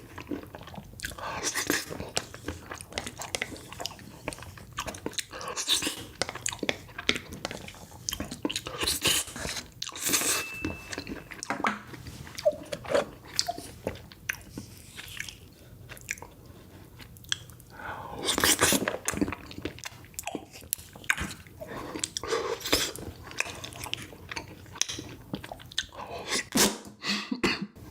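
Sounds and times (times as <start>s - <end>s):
person chewing with crunches: 0.0s - 26.7s.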